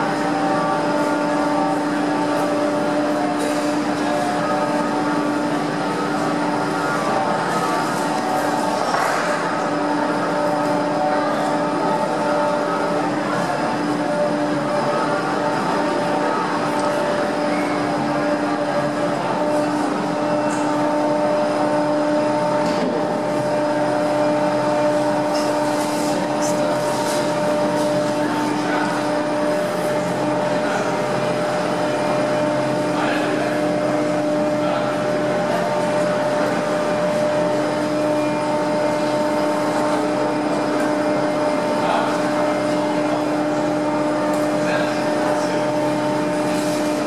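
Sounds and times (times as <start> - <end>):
winch mechanical hum: 0.0 - 47.0.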